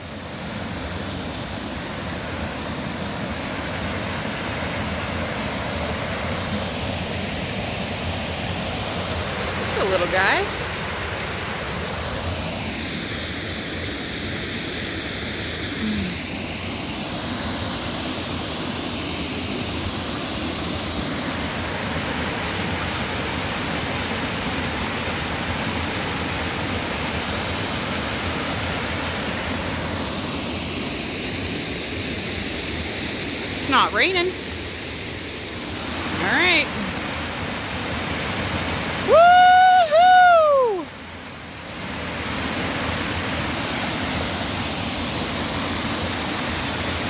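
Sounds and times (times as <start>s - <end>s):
waterfall rushing into pool: 0.0s - 47.0s.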